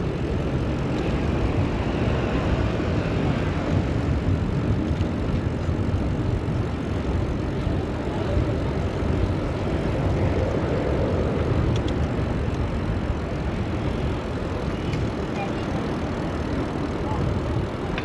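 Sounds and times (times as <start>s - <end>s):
city traffic: 0.0s - 18.0s
wind noise: 0.0s - 18.0s.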